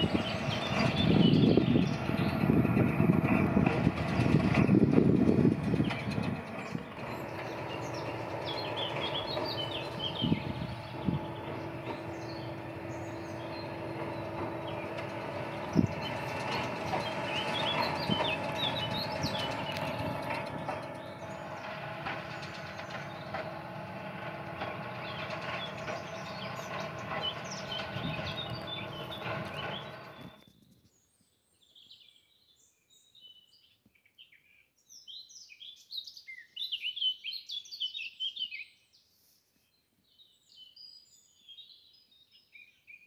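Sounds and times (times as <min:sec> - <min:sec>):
birds chirping and singing: 0:00.0 - 0:43.0.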